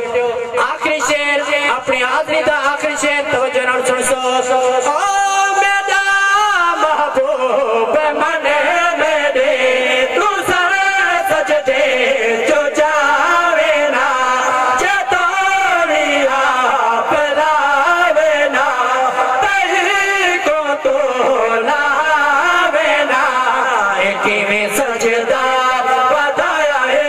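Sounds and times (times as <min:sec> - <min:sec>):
men chanting into microphones: 0:00.0 - 0:27.0.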